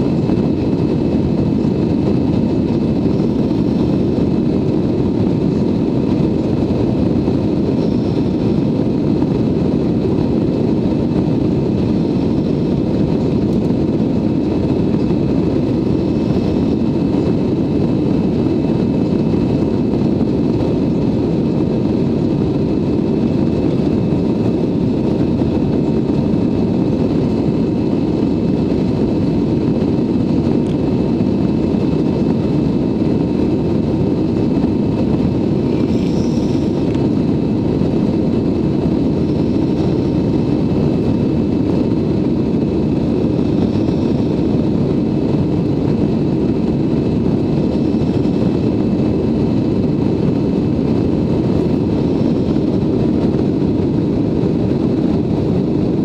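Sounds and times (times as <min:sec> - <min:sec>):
airflow rushing in aircraft cabin: 0:00.0 - 0:56.0
jet engines droning: 0:00.0 - 0:56.0.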